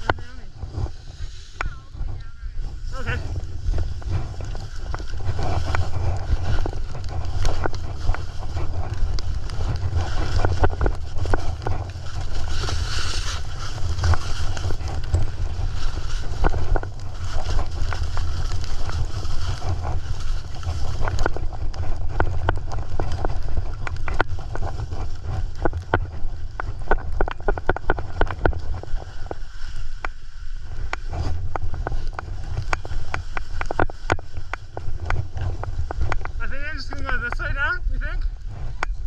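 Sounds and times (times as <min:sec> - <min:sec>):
ski edges scraping hard snow: 0:00.0 - 0:38.8
wind rumble on microphone: 0:00.0 - 0:39.0.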